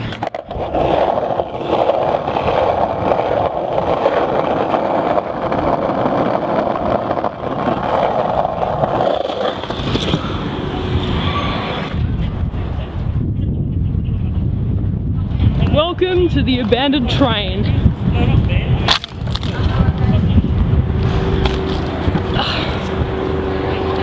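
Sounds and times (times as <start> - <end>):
skateboard wheels rolling on asphalt: 0.0 - 24.0.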